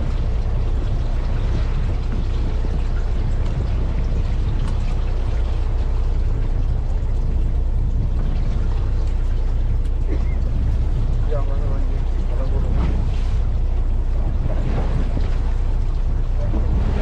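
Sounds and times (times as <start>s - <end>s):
boat engine rumbling: 0.0s - 17.0s
water noise: 0.0s - 17.0s
wind noise: 0.0s - 17.0s.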